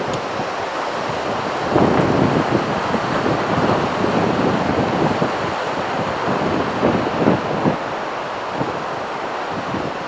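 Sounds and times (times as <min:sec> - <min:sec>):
surf crashing on beach: 0:00.0 - 0:10.0
wind noise on microphone: 0:00.0 - 0:10.0.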